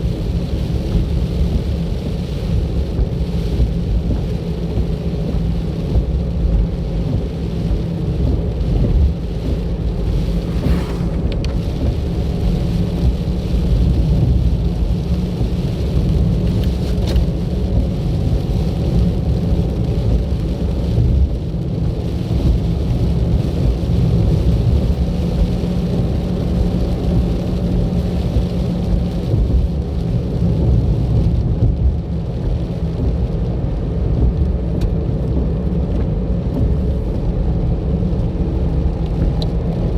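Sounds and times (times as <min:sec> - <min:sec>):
car engine rumble: 0:00.0 - 0:39.9
tyre noise on road: 0:00.0 - 0:39.9.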